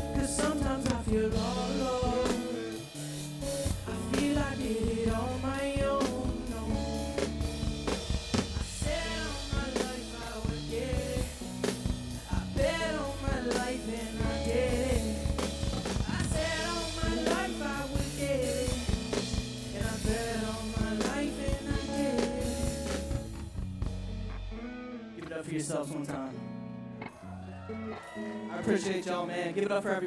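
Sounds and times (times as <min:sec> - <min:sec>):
drum kit and bass beat: 0:00.0 - 0:24.7.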